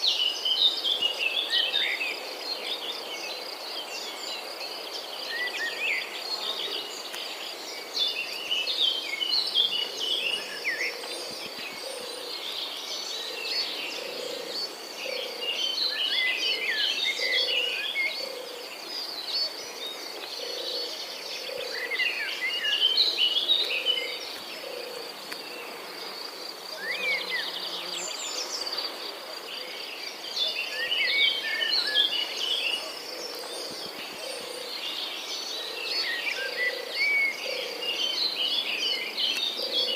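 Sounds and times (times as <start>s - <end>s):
bird song chirping: 0.0s - 39.9s.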